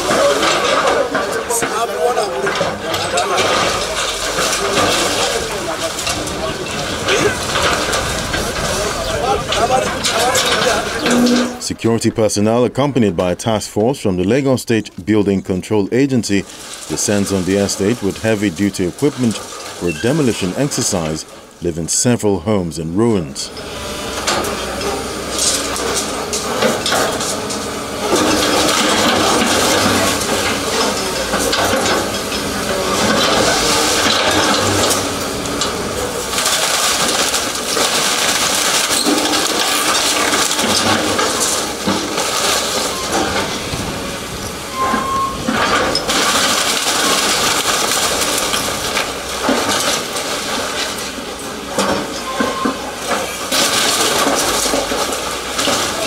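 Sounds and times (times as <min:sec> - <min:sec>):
rubble falling clattering: 0:00.0 - 0:11.6, 0:16.3 - 0:21.6, 0:24.2 - 0:56.0
masonry cracking and crunching: 0:00.0 - 0:56.0.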